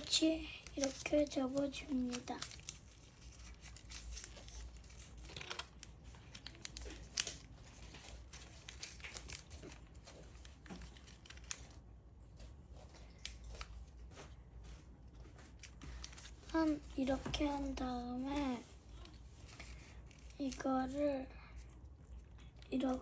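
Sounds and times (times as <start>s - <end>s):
paper crinkling while folded: 0.0s - 23.0s.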